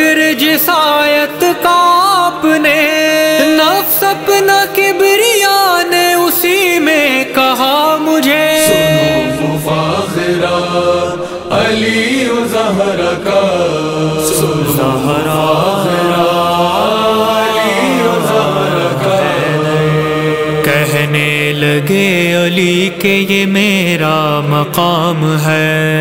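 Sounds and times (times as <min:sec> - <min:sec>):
vocal chorus chanting: 0:00.0 - 0:26.0.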